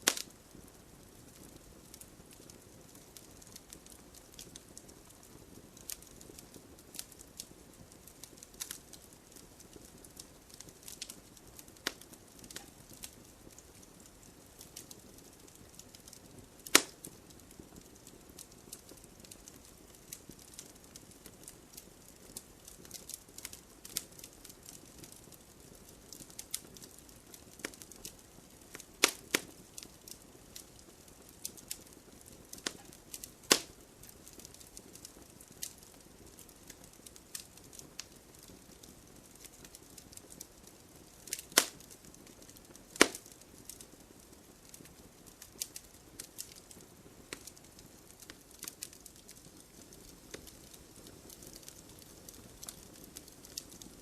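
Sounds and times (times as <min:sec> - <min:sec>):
campfire crackling: 0:00.0 - 0:54.0
faint steady hiss: 0:00.0 - 0:54.0.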